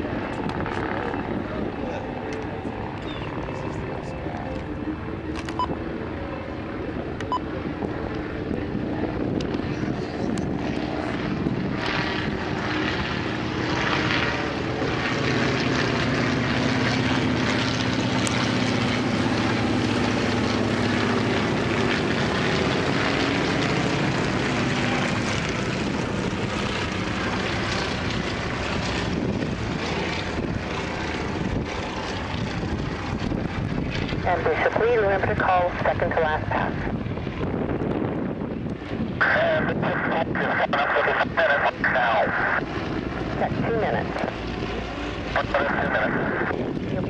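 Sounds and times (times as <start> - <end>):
biplane engine flying overhead: 0.0 - 47.0.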